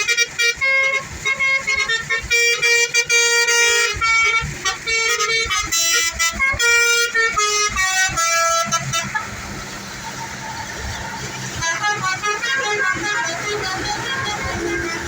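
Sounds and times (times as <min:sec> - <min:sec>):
musical bus horn tooting: 0:00.0 - 0:15.0.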